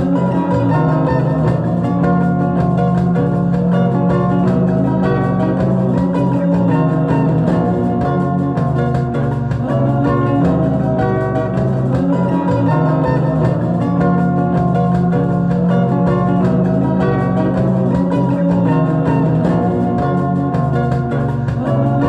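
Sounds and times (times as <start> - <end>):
plucked guitar instrumental: 0.0 - 22.0.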